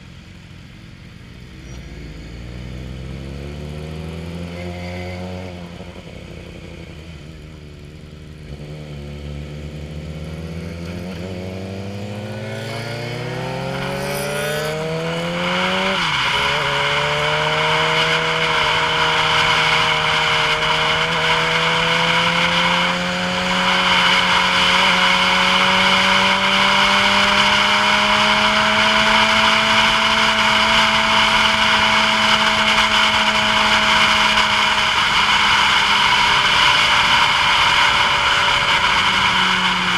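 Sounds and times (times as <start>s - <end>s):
vehicle engine pulling away: 0.0s - 39.9s.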